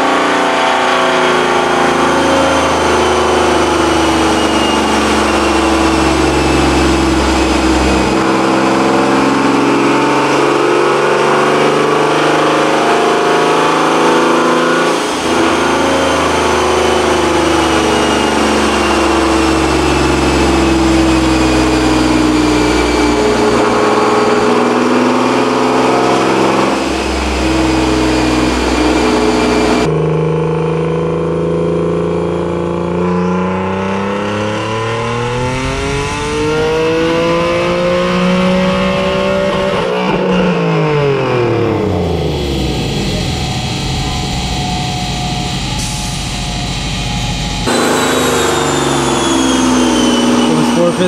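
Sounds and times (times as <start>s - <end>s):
car engine on dyno: 0.0s - 51.0s.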